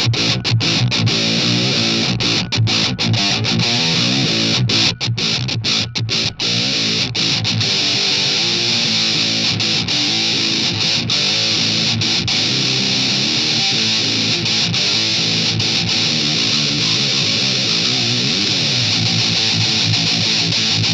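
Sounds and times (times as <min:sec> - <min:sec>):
distorted electric guitar riff: 0:00.0 - 0:20.9.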